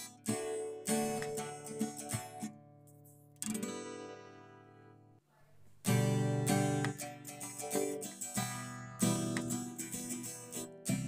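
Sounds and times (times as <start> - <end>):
strummed guitar music: 0.0 - 5.1, 5.8 - 11.0.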